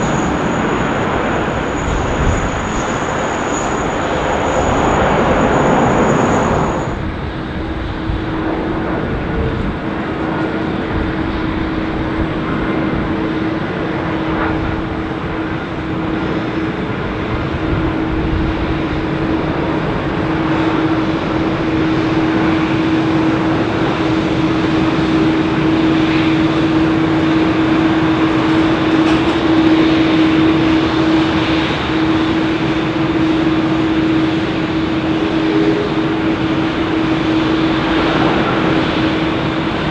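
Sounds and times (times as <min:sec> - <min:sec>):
jet engines droning: 0:00.0 - 0:39.9
rush of jet noise: 0:00.0 - 0:39.9.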